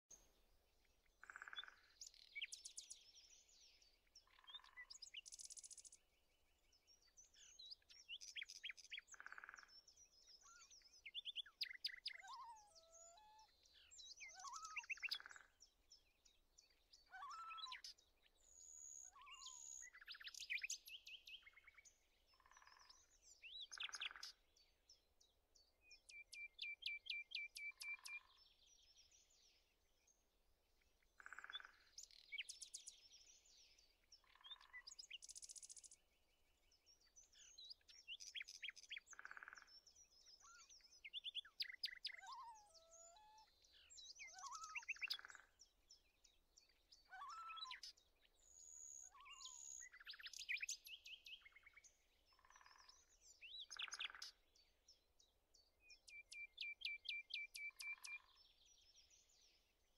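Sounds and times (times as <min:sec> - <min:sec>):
songbirds chirping and singing: 0:00.1 - 0:59.9.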